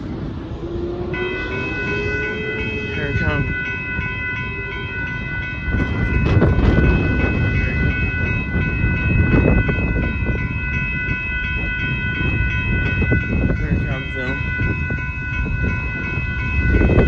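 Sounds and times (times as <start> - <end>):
low rumble: 0.0 - 17.0
railroad crossing bell ringing: 0.0 - 17.0.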